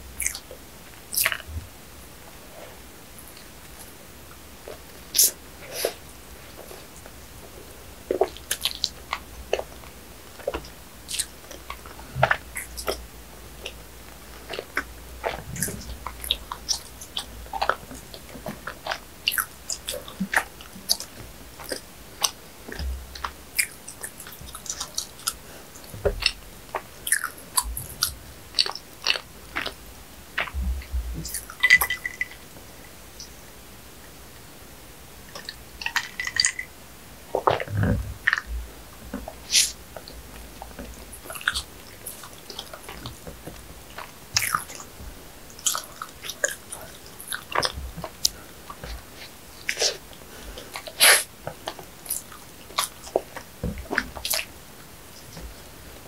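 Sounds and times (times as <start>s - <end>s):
close chewing of bread: 0.0s - 1.7s, 2.3s - 32.4s, 37.3s - 56.0s.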